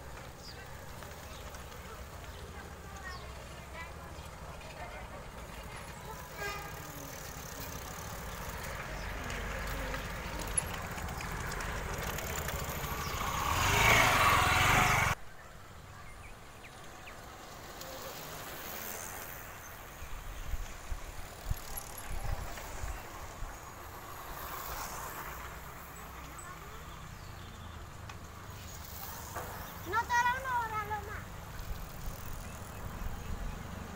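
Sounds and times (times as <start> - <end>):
road noise while riding: 0.0 - 33.9.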